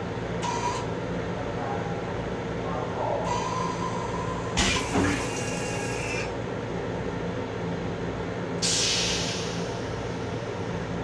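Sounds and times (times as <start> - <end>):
train hum: 0.0 - 11.0.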